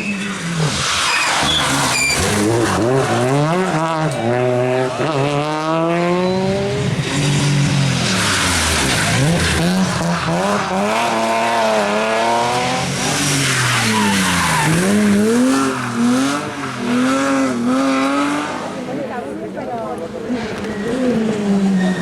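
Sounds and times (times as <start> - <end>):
tyres squealing and skidding: 0.0 - 18.8, 20.2 - 22.0
rally car engine revving: 0.0 - 22.0.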